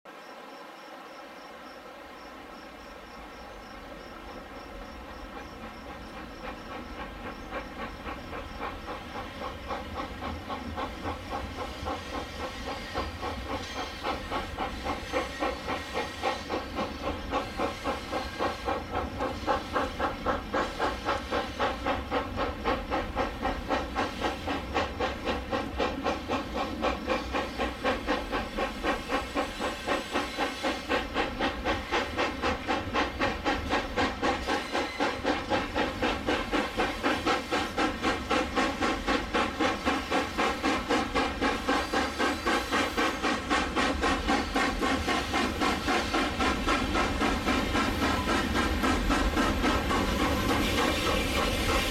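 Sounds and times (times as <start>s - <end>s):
model steam locomotive chuffing: 1.8s - 51.9s.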